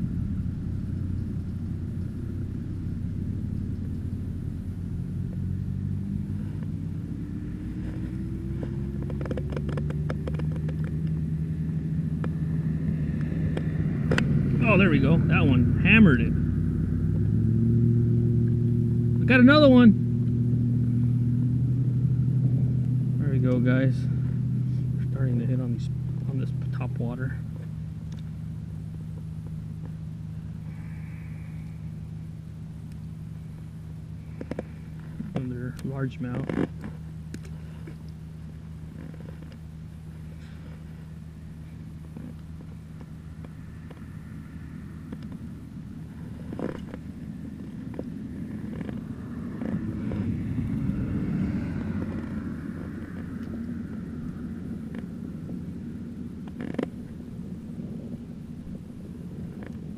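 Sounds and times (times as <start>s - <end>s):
low motor hum: 0.0s - 59.9s
vehicle engine rumble: 0.0s - 59.9s.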